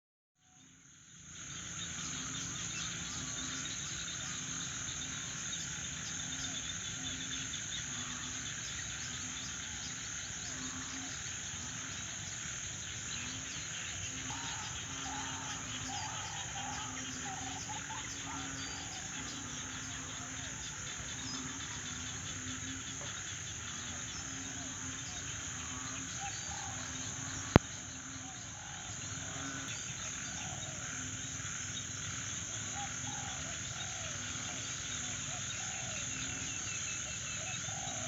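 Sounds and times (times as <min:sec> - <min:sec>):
insects droning shrilly: 0:00.6 - 0:38.0.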